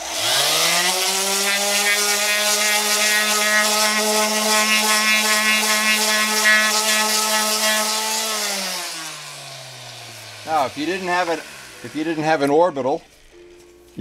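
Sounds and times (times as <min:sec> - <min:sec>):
orbital sander running: 0:00.0 - 0:13.2.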